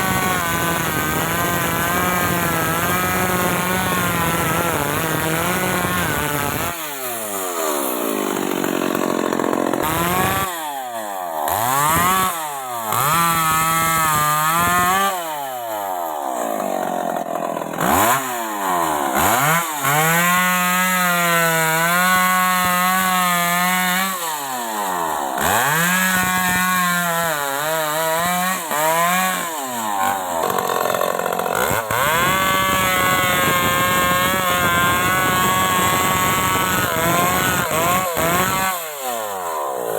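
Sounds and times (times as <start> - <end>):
chainsaw revving in wood: 0.0 - 39.9.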